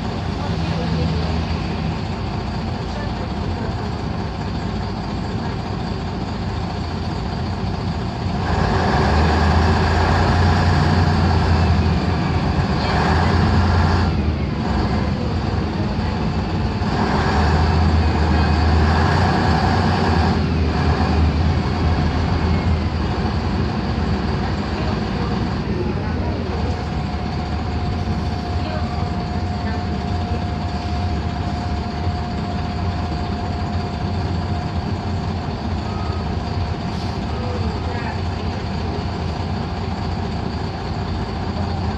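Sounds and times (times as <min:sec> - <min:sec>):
bus diesel engine droning: 0:00.0 - 0:41.9.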